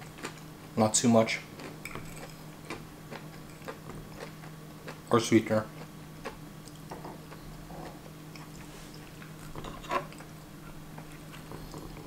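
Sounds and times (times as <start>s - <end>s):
wet chewing: 0.0s - 0.8s, 1.4s - 5.1s, 5.7s - 12.0s
faint steady hum: 0.0s - 12.0s.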